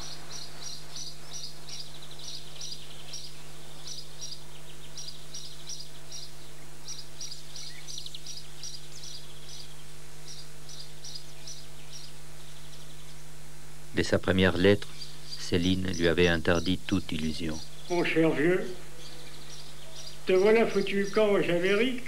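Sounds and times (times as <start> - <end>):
small bird chirping: 0.0 - 13.4, 14.0 - 22.0.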